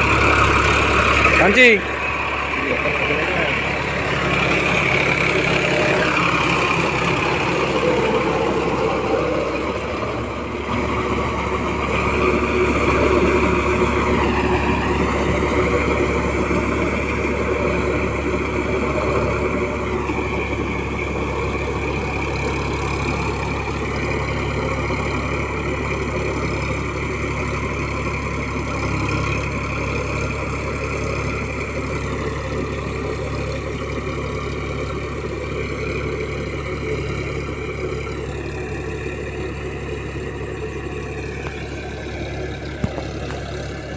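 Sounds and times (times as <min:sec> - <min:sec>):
tractor engine running: 0:00.0 - 0:43.9.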